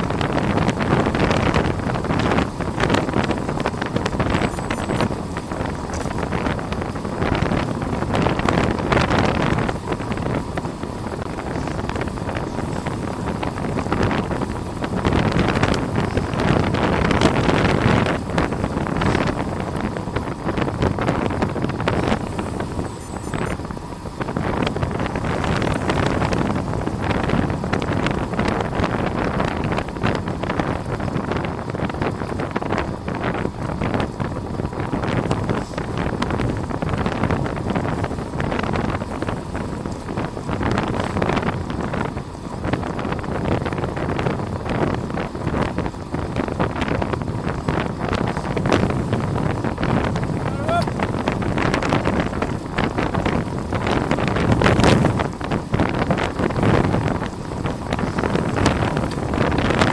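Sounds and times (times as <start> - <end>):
wind roaring over microphone: 0.0 - 59.9.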